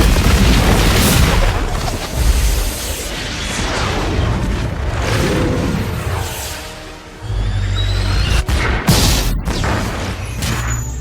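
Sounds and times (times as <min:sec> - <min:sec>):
missiles firing and exploding: 0:00.0 - 0:07.2, 0:08.2 - 0:11.0.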